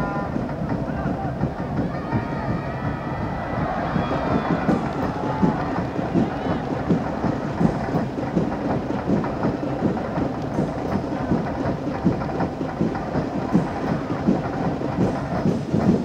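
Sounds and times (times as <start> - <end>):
stadium crowd din: 0.0 - 16.0.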